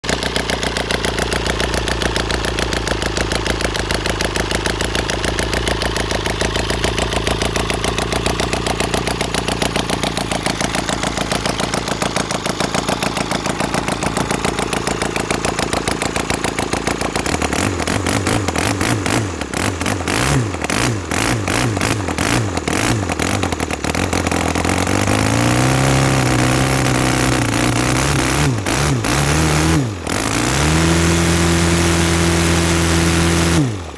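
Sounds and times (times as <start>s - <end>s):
boxer engine running: 0.0s - 33.9s.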